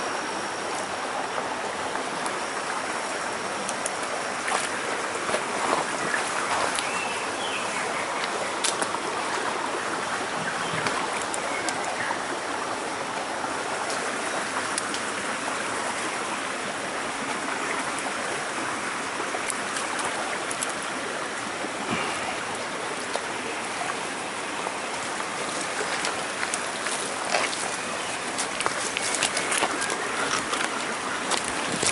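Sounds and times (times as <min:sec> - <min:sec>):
stream flowing over rocks: 0:00.0 - 0:31.9.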